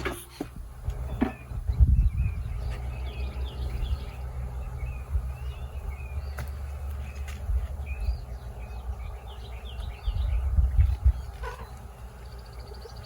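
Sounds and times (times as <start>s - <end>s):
songbirds chirping and singing: 0.0s - 13.0s
low rumble: 0.6s - 11.9s.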